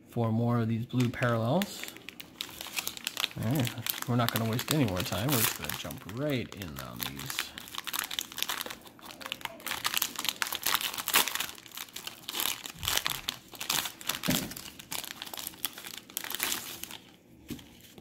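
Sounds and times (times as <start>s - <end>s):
plastic wrapper crinkling: 0.9s - 18.0s.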